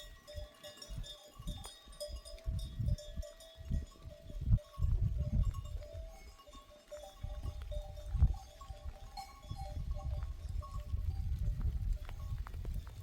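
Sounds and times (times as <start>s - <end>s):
goat bells ringing: 0.0s - 13.0s.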